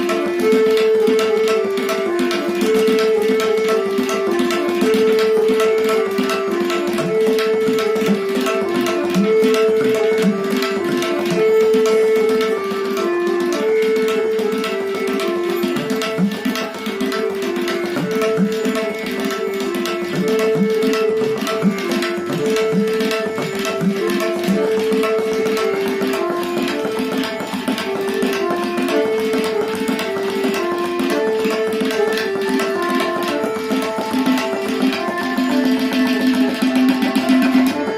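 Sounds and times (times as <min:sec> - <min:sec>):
tabla drumming: 0:00.0 - 0:37.9.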